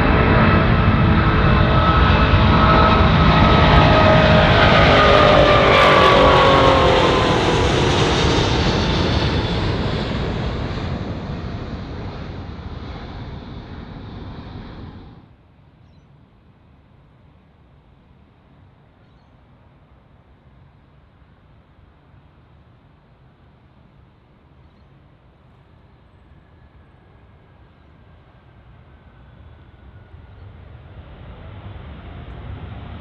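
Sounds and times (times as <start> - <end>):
jet airliner passing: 0.0 - 16.2, 18.5 - 33.0.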